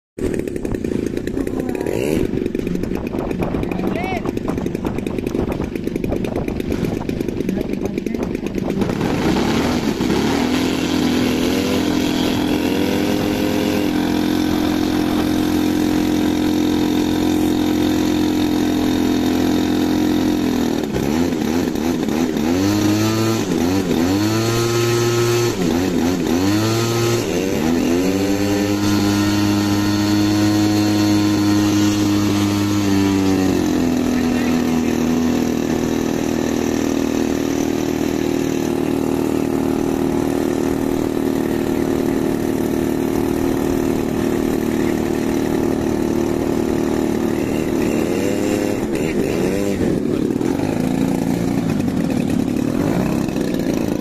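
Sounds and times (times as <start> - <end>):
model plane engine and propeller: 0.2 - 54.0.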